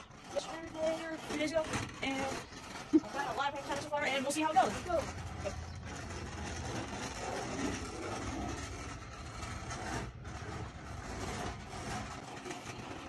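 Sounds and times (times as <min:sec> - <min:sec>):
wheels rolling over concrete: 0:00.0 - 0:13.0.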